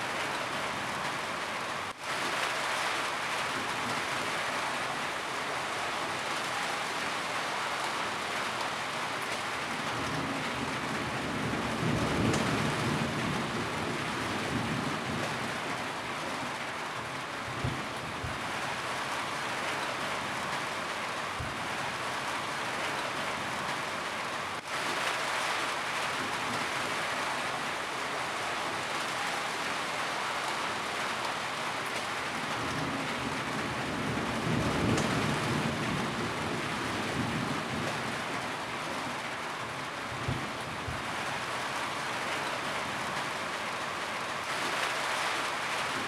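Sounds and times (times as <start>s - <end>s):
rain on a roof: 0.0s - 46.0s.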